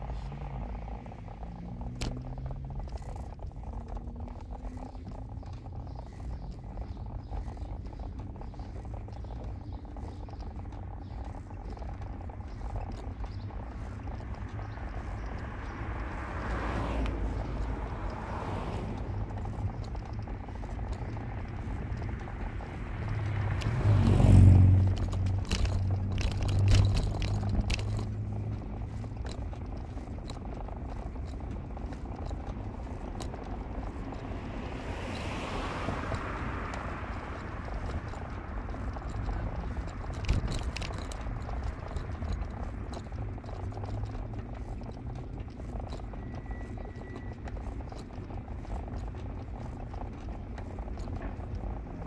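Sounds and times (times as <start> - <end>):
car road and engine noise: 0.0 - 52.0
vehicles passing by: 0.0 - 52.0.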